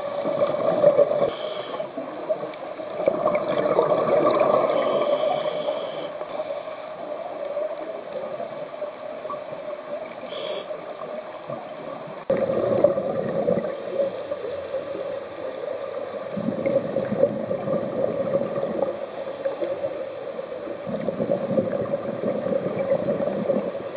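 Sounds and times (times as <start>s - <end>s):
regulator bubbles gurgling: 0.0s - 5.5s, 6.2s - 23.9s
underwater water noise hum: 0.0s - 23.9s.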